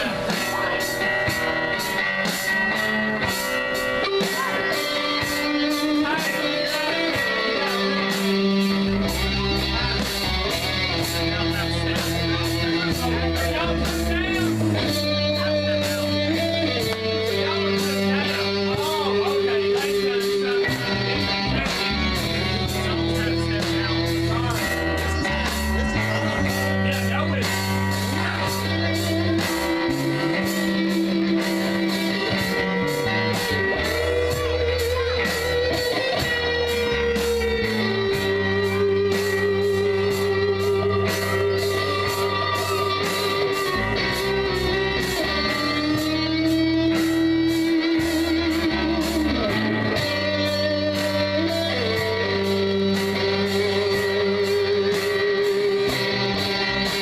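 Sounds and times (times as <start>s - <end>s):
electric guitar with bent notes: 0.0s - 57.0s
held bass notes: 0.0s - 57.0s
rock band playing: 0.0s - 57.0s
steady drum beat: 0.0s - 57.0s.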